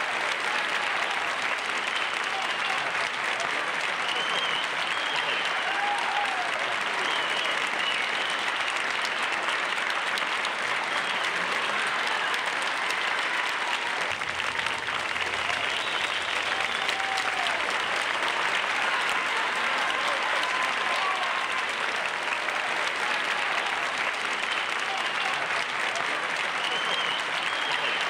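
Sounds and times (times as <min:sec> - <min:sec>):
audience applauding: 0:00.0 - 0:28.0.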